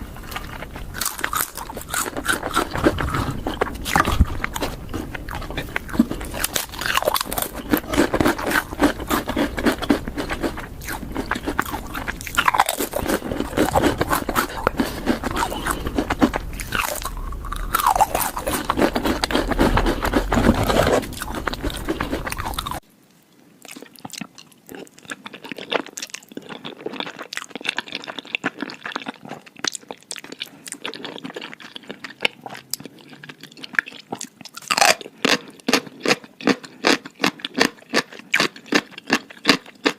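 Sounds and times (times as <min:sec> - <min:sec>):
crunching and chewing crisp food: 0:00.0 - 0:22.9, 0:23.6 - 0:39.9.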